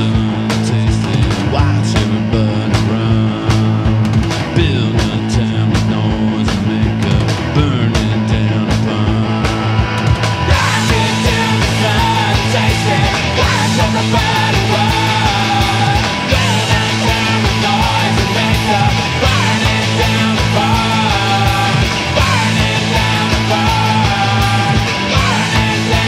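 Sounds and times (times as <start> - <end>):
indie rock band playing: 0.0 - 26.0.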